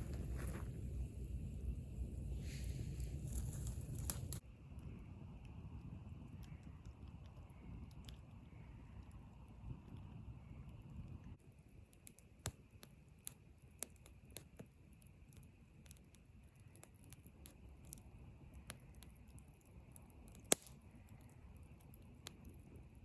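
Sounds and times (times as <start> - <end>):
faint steady high hiss: 0.0 - 23.0
sharp clicks and snaps: 3.0 - 22.7.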